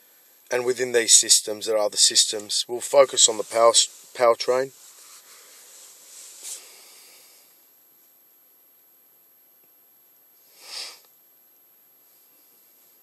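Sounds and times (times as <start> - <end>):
faint steady hiss: 0.0 - 13.0
soft rush of noise: 0.0 - 13.0.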